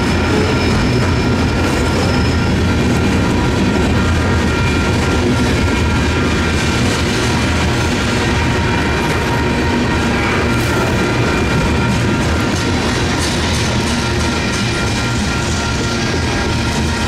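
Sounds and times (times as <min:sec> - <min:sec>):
crossing bells ringing: 0:00.0 - 0:17.0.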